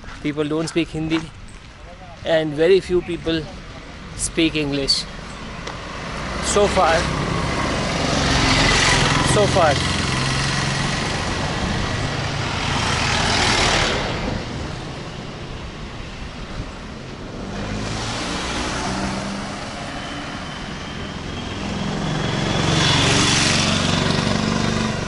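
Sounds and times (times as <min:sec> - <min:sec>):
vehicles driving past: 0:00.0 - 0:25.0.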